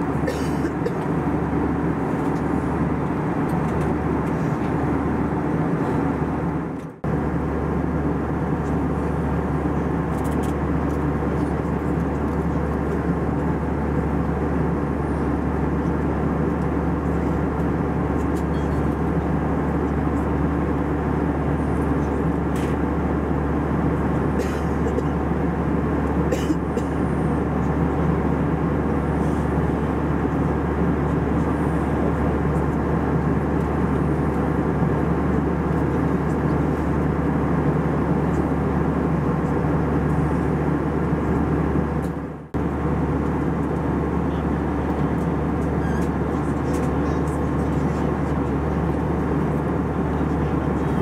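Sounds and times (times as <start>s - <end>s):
airplane cabin engine noise: 0.0s - 51.0s.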